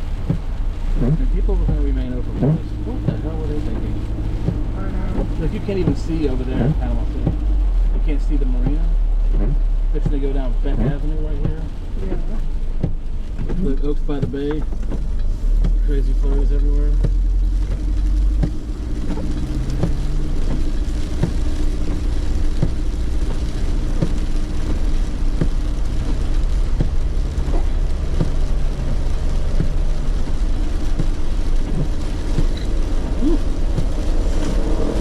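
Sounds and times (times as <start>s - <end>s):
engine and road rumble: 0.0s - 35.0s.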